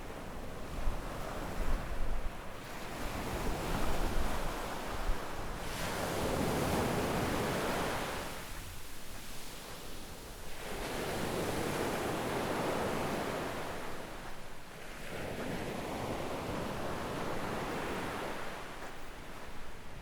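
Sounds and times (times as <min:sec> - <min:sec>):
waves washing up a sandy beach: 0:00.0 - 0:20.0.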